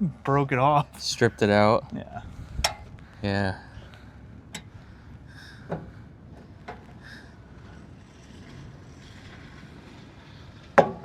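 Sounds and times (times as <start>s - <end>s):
wind buffeting microphone: 0.3s - 11.0s.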